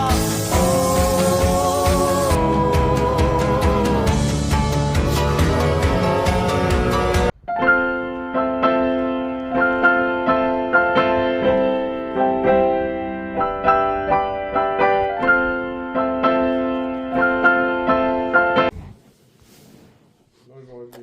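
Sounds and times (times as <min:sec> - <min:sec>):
piano melody: 0:00.0 - 0:18.7.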